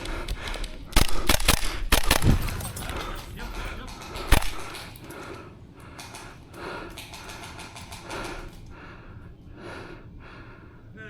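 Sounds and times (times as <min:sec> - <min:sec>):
person breathing heavily: 0:00.0 - 0:11.0.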